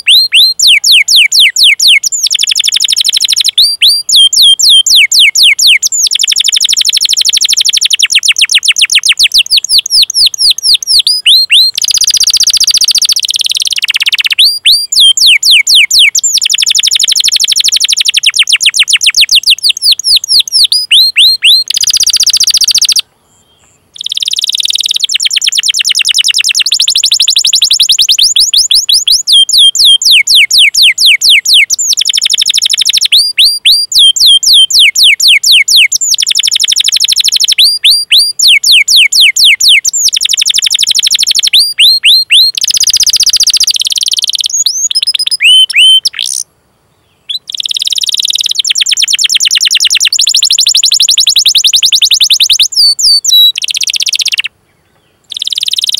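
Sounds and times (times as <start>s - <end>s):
canary singing rapid chirps: 0.0s - 23.0s, 23.8s - 46.5s, 47.3s - 54.5s, 55.3s - 55.9s.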